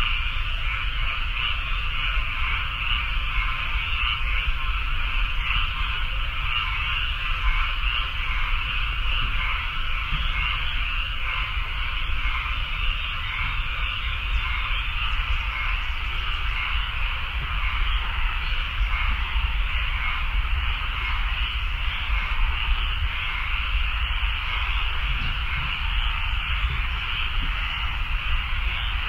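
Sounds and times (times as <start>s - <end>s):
high buzzing animal chorus: 0.0s - 29.0s.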